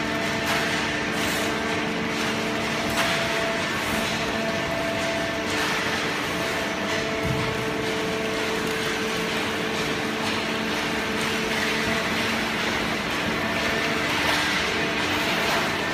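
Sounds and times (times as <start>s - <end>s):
machine drone with humming tones: 0.0s - 15.9s.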